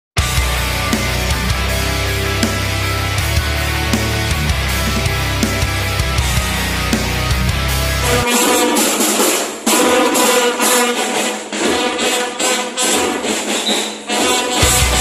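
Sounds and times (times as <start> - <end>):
rock music: 0.2 - 12.3, 13.1 - 15.0
brass band with drums playing: 0.2 - 15.0.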